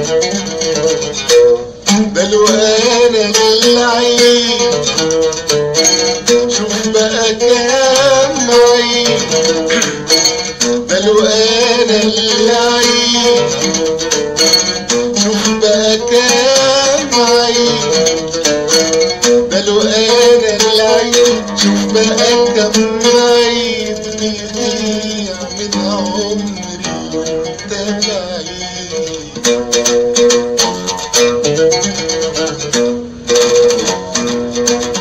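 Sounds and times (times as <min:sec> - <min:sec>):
oud playing: 0:00.0 - 0:35.0.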